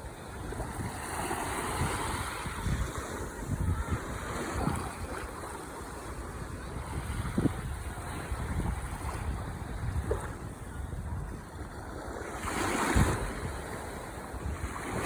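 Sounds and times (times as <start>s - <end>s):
ocean waves breaking: 0.0s - 15.0s
wind buffeting microphone: 0.0s - 15.0s.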